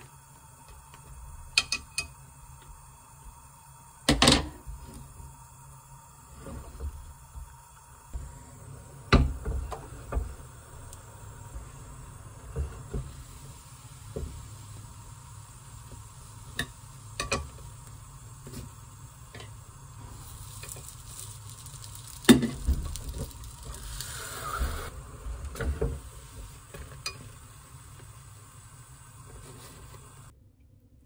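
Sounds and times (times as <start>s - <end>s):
dough sizzling in hot pan: 0.0s - 30.3s.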